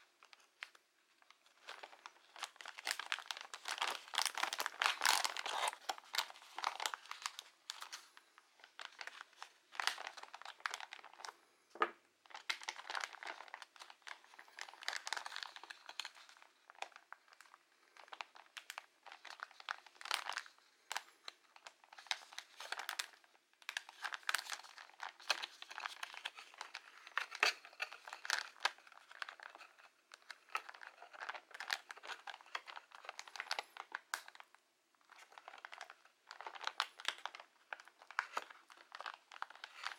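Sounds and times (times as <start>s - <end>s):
plastic packaging crinkling: 0.0s - 11.4s, 12.2s - 39.9s.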